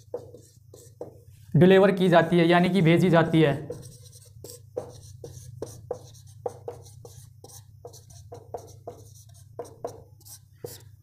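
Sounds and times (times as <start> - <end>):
marker writing on whiteboard: 0.0 - 1.4, 2.9 - 11.0.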